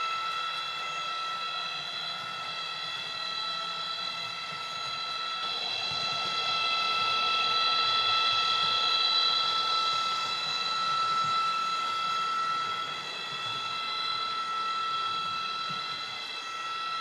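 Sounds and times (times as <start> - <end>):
high-pitched electric whine: 0.0 - 17.0.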